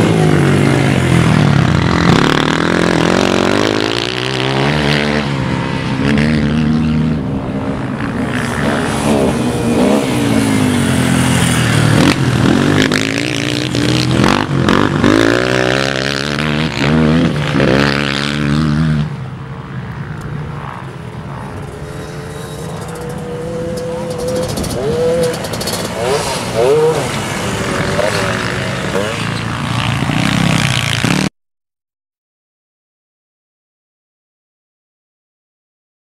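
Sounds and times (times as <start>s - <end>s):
quad bike engines revving: 0.0s - 31.3s.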